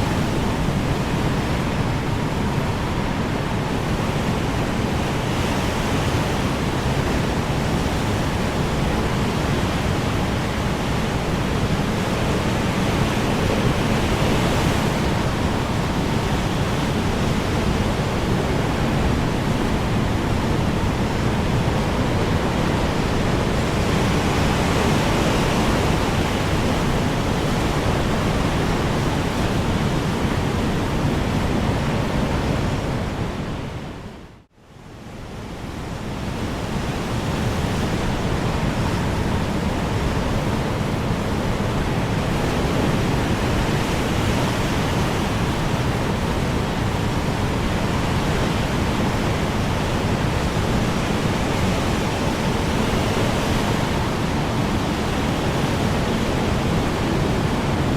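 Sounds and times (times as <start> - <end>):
strong wind blowing: 0.0 - 57.9.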